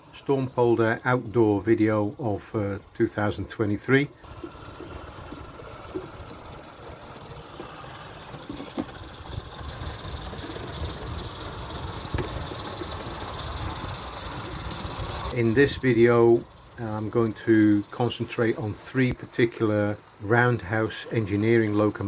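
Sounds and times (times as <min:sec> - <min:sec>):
hiss of escaping steam: 0:00.0 - 0:22.0.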